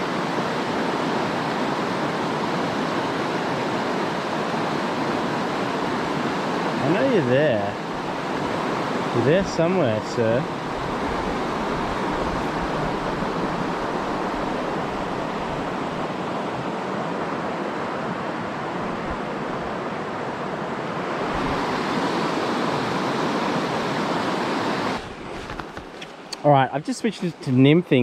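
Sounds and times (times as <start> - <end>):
river water rushing over rocks: 0.0 - 26.4.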